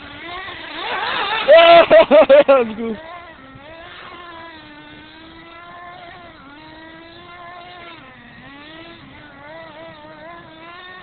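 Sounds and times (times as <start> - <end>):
model truck engine revving: 0.0 - 11.0.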